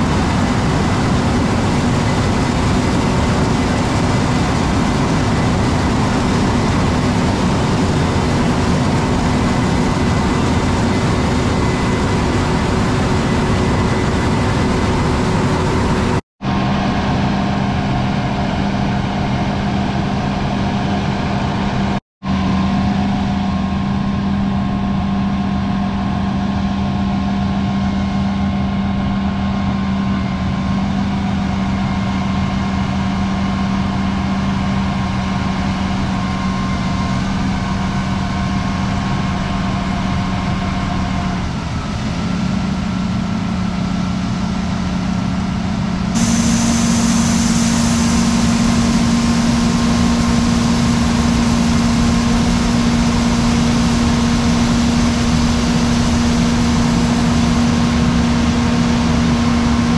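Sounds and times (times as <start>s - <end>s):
large machinery engine running: 0.0s - 59.9s.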